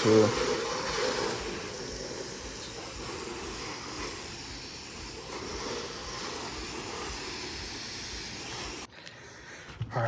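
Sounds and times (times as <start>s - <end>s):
water spraying from a hose: 0.0s - 8.9s.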